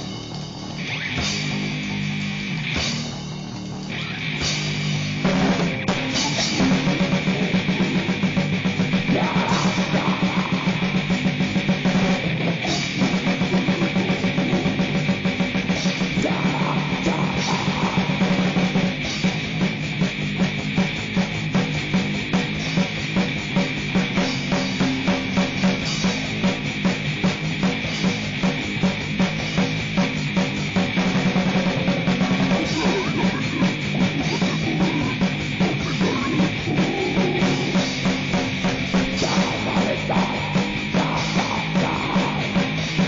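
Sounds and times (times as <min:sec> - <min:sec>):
distorted guitar and bass: 0:00.0 - 0:43.0
fast pounding drums: 0:00.0 - 0:43.0
harsh noise layer: 0:00.0 - 0:43.0.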